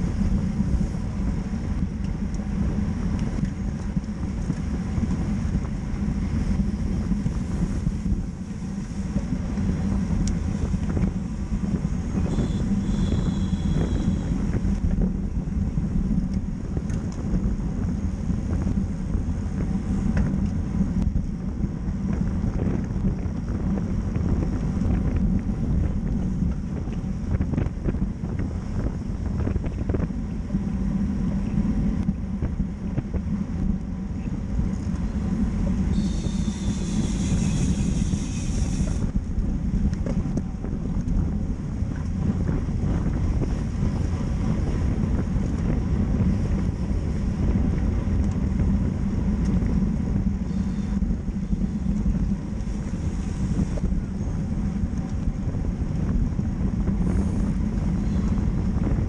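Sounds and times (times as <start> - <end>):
freewheel hub buzzing: 0.0 - 59.0
road and tyre rumble: 0.0 - 59.0
wind buffeting microphone: 0.0 - 59.0.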